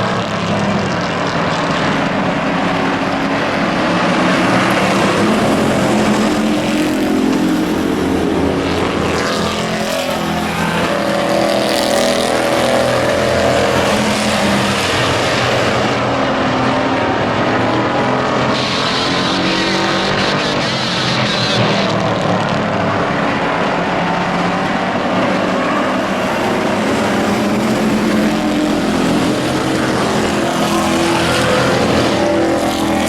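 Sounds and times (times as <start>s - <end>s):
race truck engines passing: 0.0s - 33.0s.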